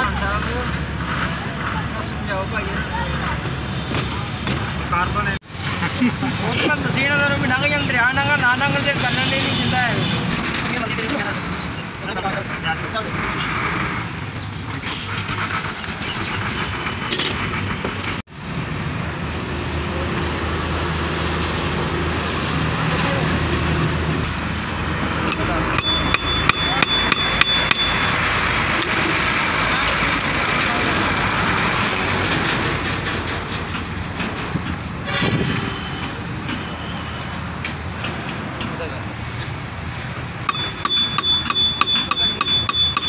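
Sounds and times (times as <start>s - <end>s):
outdoor street noise: 0.0s - 43.0s
passing road traffic: 0.0s - 43.0s.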